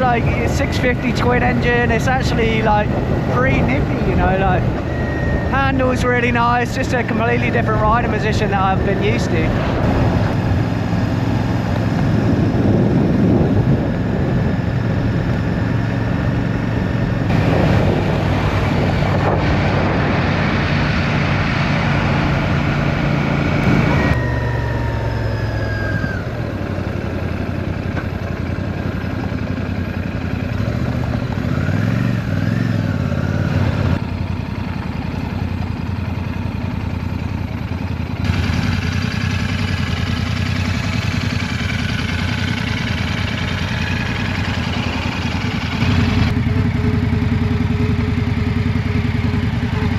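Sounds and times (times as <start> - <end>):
motorcycle engine running: 0.0 - 49.9
wind and road rush: 0.0 - 49.9.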